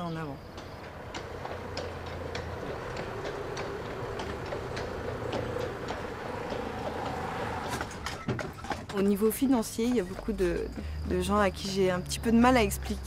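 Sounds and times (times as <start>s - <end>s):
horse hooves clip-clopping on pavement: 0.0s - 13.0s
wagon wheels rolling: 0.0s - 13.0s.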